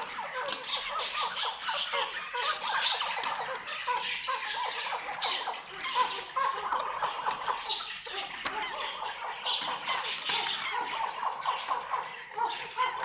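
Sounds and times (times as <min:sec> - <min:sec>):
partridge chirping call: 0:00.0 - 0:13.0.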